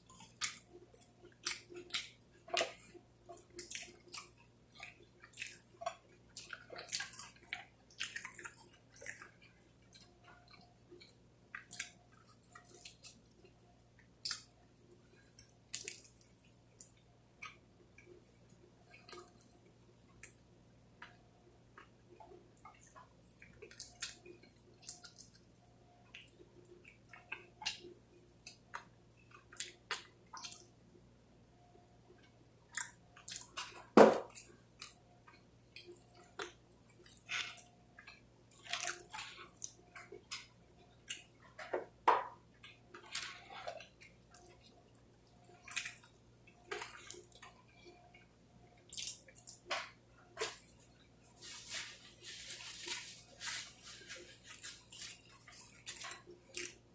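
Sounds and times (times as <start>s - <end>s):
chewing and lip smacks: 0.0s - 20.4s, 21.8s - 30.8s, 32.1s - 41.7s, 42.5s - 51.3s, 54.0s - 56.9s.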